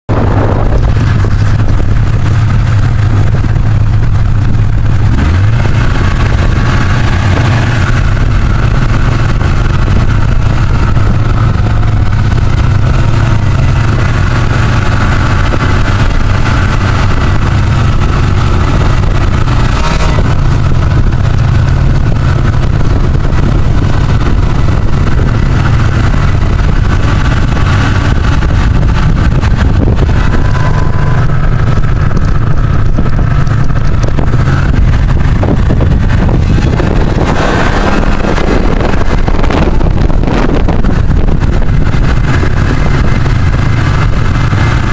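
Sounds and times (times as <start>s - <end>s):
snowmobile engines droning: 0.1s - 44.9s.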